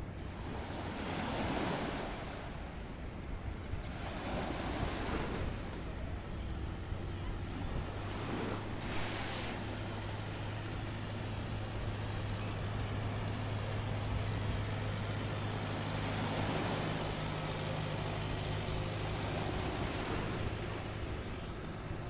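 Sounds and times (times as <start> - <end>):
constant low hum: 0.0 - 22.0
sea surf: 0.0 - 22.0
wind on microphone: 3.2 - 22.0.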